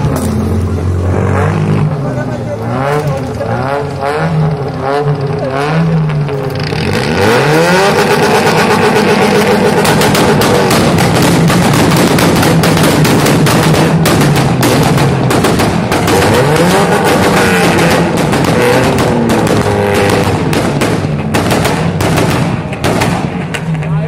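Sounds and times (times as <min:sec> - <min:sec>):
car engine revving high: 0:00.0 - 0:22.7
crackling exhaust: 0:00.0 - 0:24.0.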